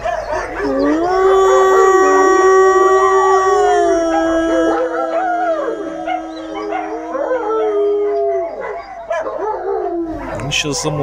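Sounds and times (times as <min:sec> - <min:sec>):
wolves howling: 0:00.0 - 0:11.0
man howling like a wolf: 0:00.1 - 0:10.5.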